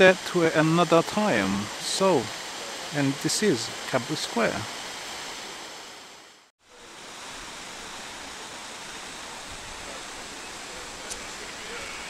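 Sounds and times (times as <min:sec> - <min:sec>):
fountain water splashing: 0:00.0 - 0:05.9, 0:06.7 - 0:12.0.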